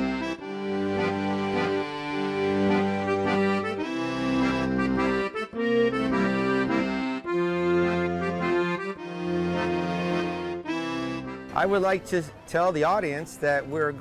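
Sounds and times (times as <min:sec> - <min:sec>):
accordion chords: 0:00.0 - 0:14.0.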